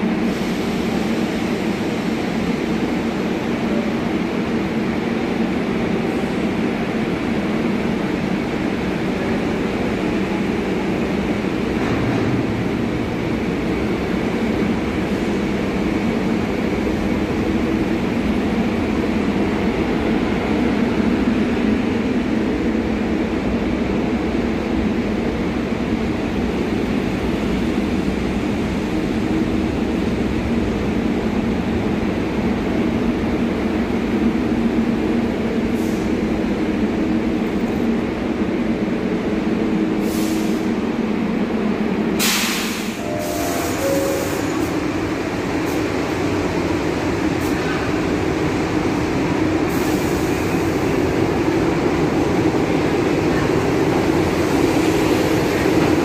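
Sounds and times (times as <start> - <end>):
subway train passing: 0.0 - 56.0.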